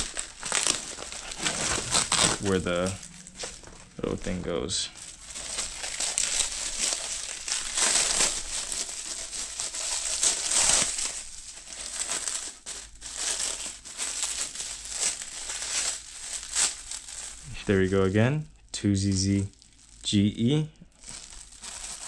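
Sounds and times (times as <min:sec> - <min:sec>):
plastic packaging crinkling: 0:00.0 - 0:17.9, 0:19.0 - 0:22.0.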